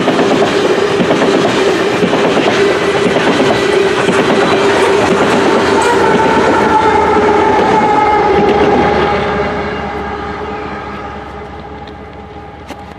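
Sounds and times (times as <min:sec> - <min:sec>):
diesel locomotive hum: 0:00.0 - 0:12.9.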